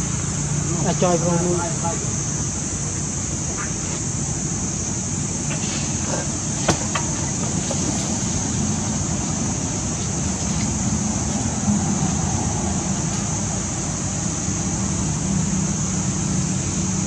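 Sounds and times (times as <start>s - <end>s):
constant high hiss: 0.0s - 17.0s.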